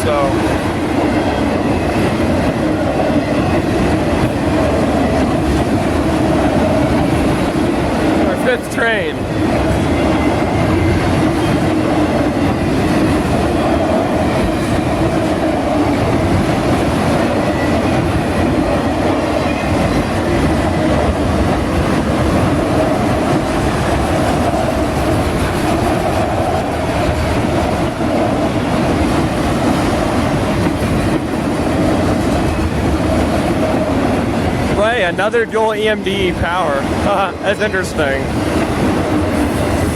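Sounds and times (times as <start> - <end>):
clickety-clack of rails: 0.0 - 39.9
train wheels rumbling on rail: 0.0 - 39.9.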